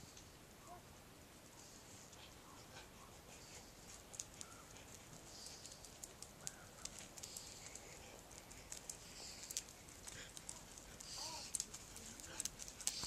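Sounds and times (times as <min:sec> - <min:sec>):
dog paws pattering: 0:02.0 - 0:13.0.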